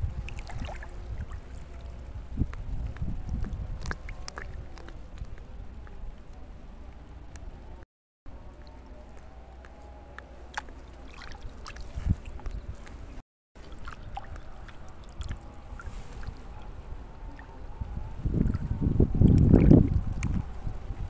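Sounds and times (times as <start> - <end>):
water lapping: 0.0 - 7.7, 8.4 - 21.0
wind rumbling on microphone: 0.0 - 21.0.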